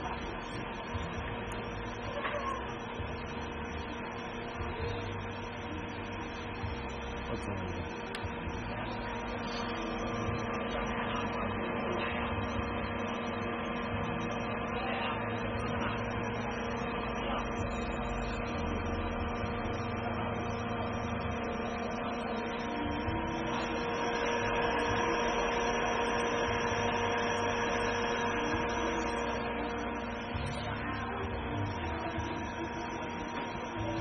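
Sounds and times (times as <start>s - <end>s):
hot-air blower whirring hum: 0.0s - 34.0s.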